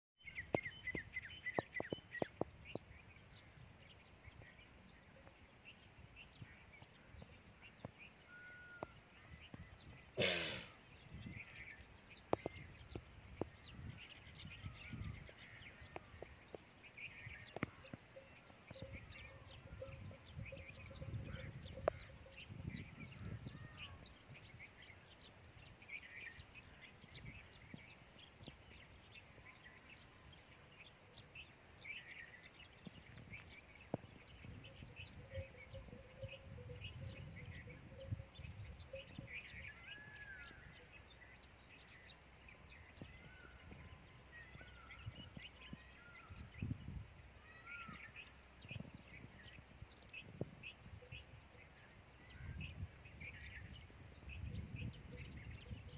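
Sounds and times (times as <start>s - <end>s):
small birds chirping: 0.2s - 55.9s.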